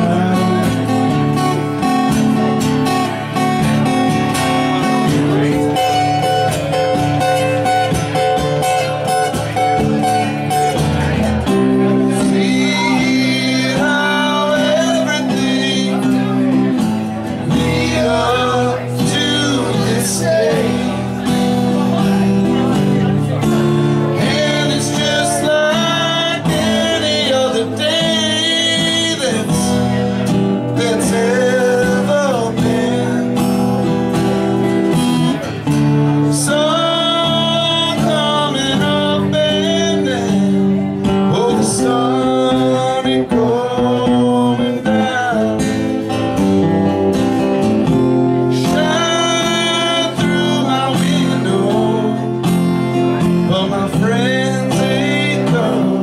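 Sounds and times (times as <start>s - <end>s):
man singing into a microphone: 0.0s - 56.0s
strummed acoustic guitar: 0.0s - 56.0s.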